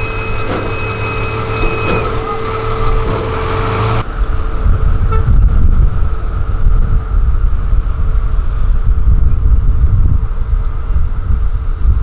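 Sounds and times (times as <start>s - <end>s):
heavy construction machinery rumble: 0.0s - 12.0s
wind buffeting microphone: 0.0s - 12.0s.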